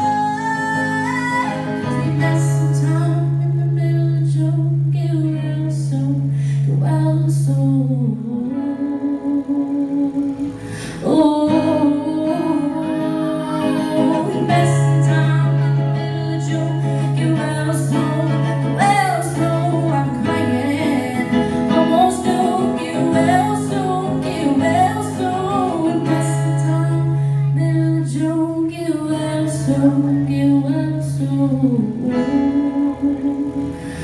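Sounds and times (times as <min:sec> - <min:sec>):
acoustic guitar: 0:00.0 - 0:34.0
woman singing: 0:00.0 - 0:34.0.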